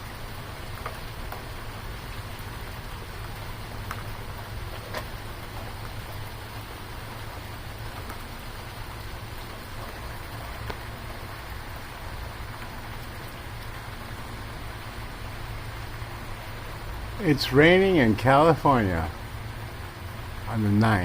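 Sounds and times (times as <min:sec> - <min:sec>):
steady rain patter: 0:00.0 - 0:21.0.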